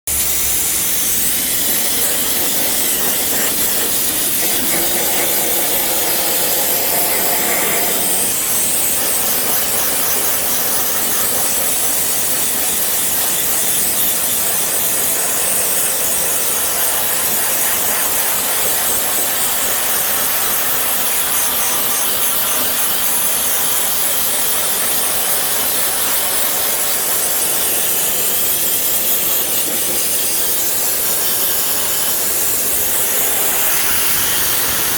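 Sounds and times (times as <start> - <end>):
high-pressure water spray hissing: 0.1 - 34.9.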